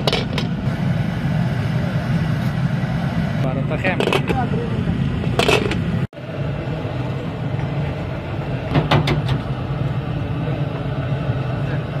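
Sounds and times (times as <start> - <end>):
gas burner roaring: 0.0 - 12.0.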